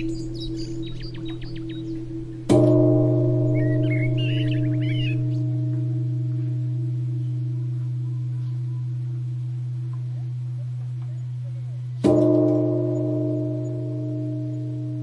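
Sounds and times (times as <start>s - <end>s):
low steady drone: 0.0s - 15.0s
ringing bell-like tones: 0.0s - 15.0s.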